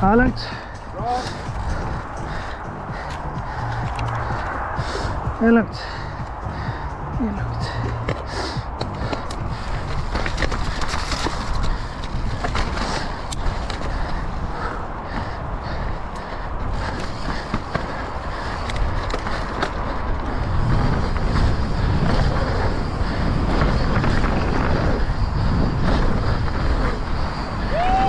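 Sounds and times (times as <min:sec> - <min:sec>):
knocks and rattles over bumps: 0:00.0 - 0:24.7
bike tyre and wind noise: 0:00.0 - 0:28.0.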